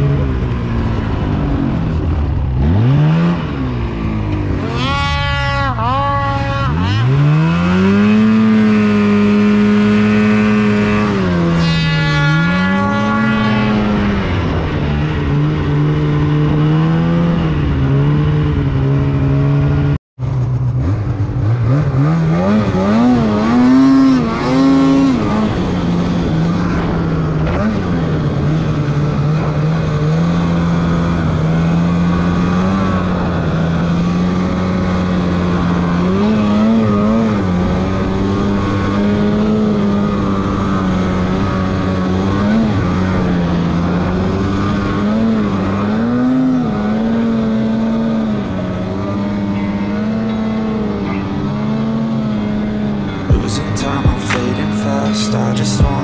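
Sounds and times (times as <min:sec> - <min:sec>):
snowmobile engine revving: 0:00.0 - 0:19.8, 0:20.8 - 0:48.1, 0:48.9 - 0:56.0.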